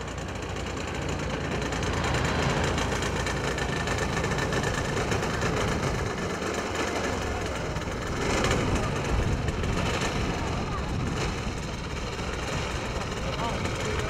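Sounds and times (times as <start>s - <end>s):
model plane engine idling: 0.0s - 14.0s.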